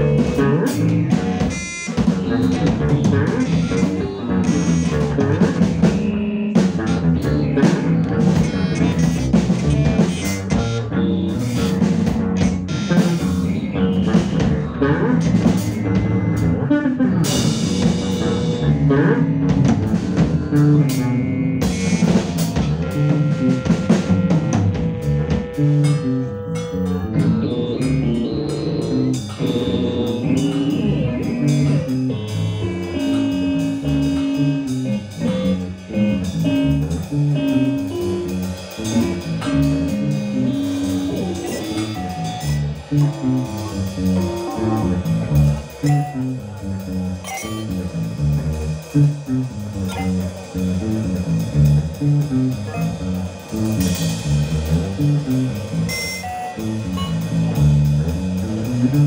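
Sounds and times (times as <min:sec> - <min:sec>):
drums: 0:00.0 - 0:59.0
electric bass guitar line: 0:00.0 - 0:59.0.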